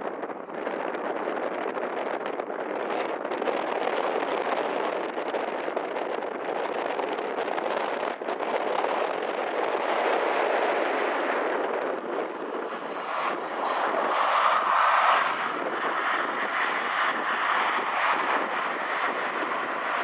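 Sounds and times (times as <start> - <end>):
jet engine rush: 0.0 - 20.0.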